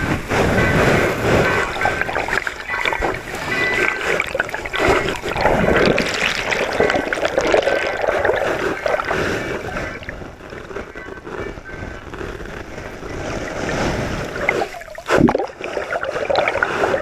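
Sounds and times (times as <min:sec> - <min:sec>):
water sloshing and trickling: 0:00.0 - 0:17.0.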